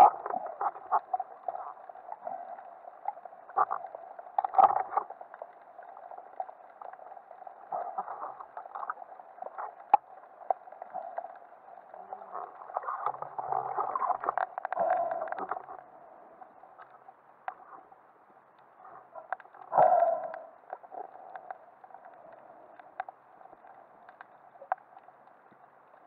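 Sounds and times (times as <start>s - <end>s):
muffled underwater water noise: 0.0s - 26.0s.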